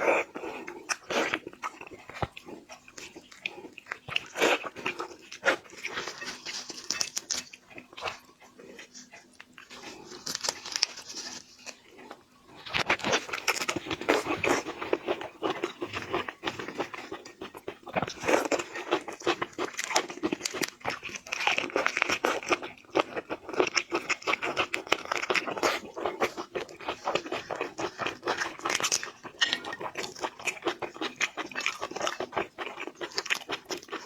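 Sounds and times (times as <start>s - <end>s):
person chewing crunchy food: 0.0s - 34.0s.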